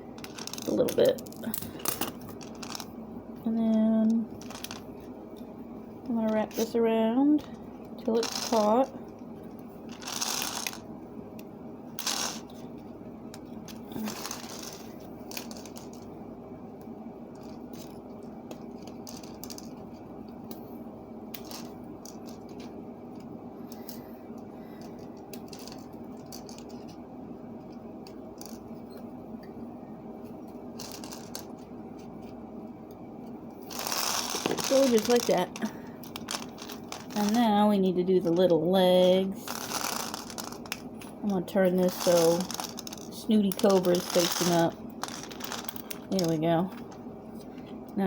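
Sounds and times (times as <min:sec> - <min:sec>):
faint hum: 0:00.0 - 0:48.0.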